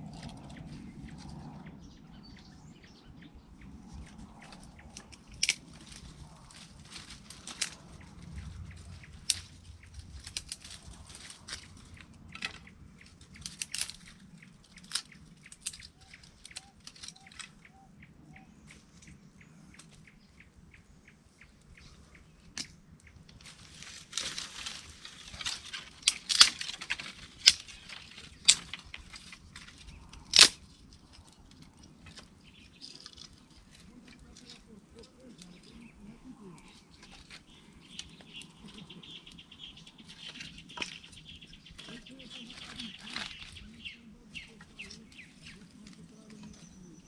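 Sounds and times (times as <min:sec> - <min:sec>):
birds chirping: 0:00.0 - 0:47.0
dry rustling: 0:03.6 - 0:20.4, 0:21.8 - 0:47.0
sharp snaps and cracks: 0:03.6 - 0:20.5, 0:21.6 - 0:47.0.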